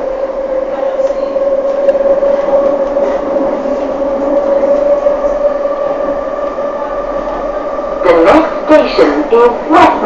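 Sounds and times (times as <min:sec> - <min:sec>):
train whine: 0:00.0 - 0:10.0.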